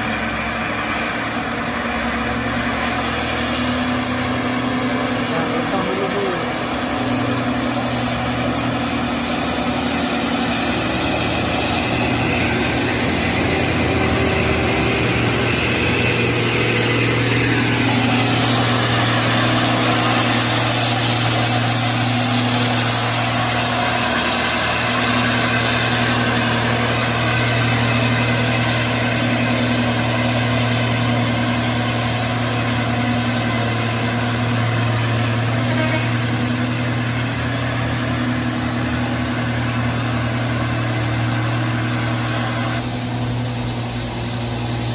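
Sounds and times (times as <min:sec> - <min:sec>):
diesel truck engines droning: 0:00.0 - 0:44.9.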